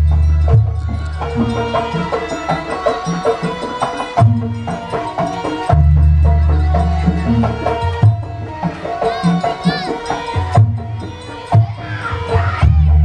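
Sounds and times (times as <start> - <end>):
drums and percussion rhythm: 0.0 - 13.0.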